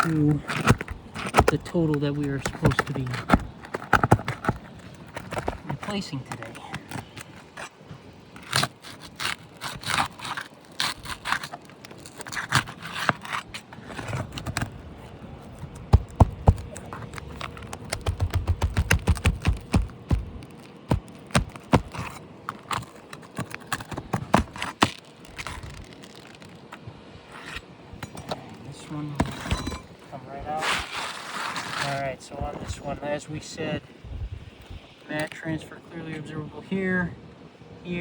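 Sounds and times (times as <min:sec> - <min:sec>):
roof shingles scraping and crackling: 0:00.0 - 0:33.1.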